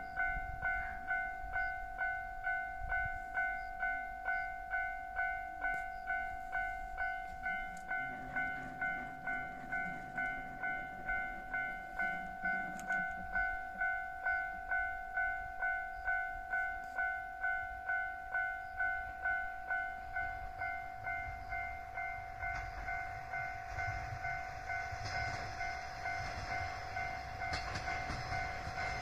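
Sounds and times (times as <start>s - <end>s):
level crossing bell ringing: 0.2s - 27.3s.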